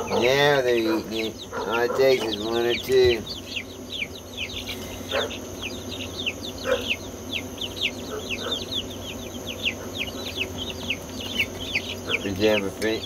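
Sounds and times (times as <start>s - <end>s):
lower chick calls: 0.0s - 12.8s
chicks peeping: 0.0s - 13.0s.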